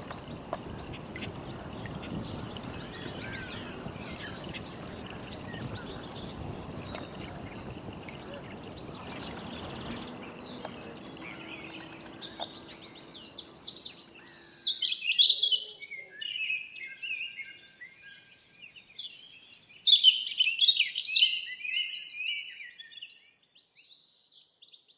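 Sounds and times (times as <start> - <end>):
birds singing: 0.0 - 24.9.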